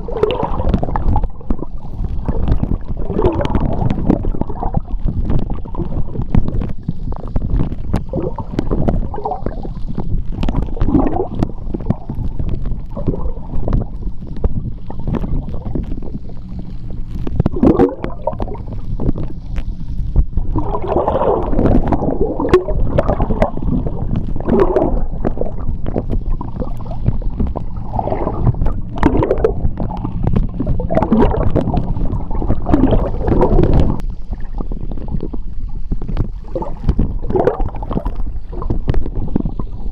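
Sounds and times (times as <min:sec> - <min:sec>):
bubbly gurgles: 0:00.0 - 0:39.9
sharp underwater clicks: 0:00.0 - 0:39.9
underwater churning rumble: 0:00.0 - 0:39.9.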